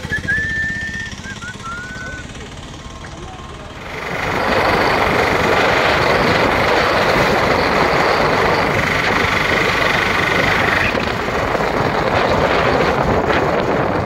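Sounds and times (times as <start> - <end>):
auto-rickshaw engine running: 0.0 - 14.0
high steady whine: 0.0 - 14.0
road and wind noise: 0.0 - 14.0.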